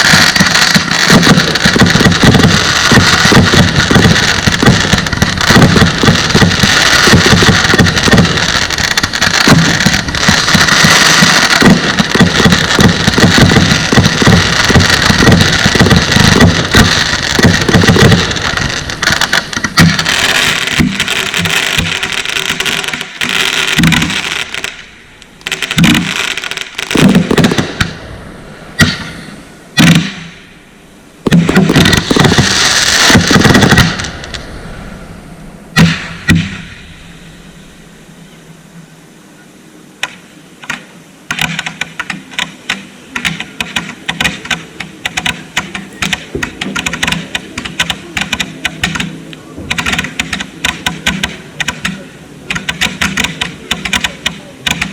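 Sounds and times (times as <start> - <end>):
fireworks bangs and crackling: 0.0 - 38.5, 40.0 - 54.9.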